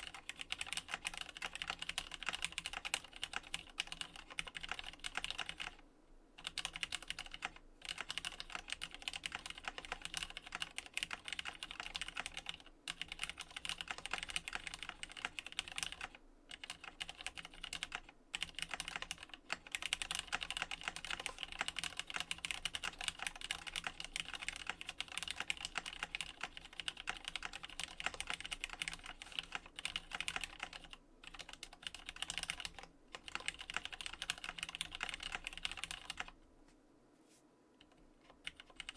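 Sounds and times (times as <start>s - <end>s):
mechanical keyboard typing: 0.0s - 5.8s, 6.4s - 36.4s, 37.8s - 38.9s.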